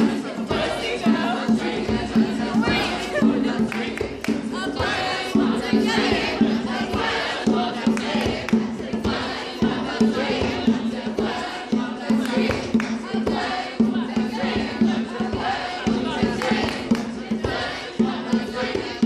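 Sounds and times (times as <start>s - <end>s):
group singing and chanting: 0.0s - 19.0s
sharp percussive hits: 0.0s - 19.0s.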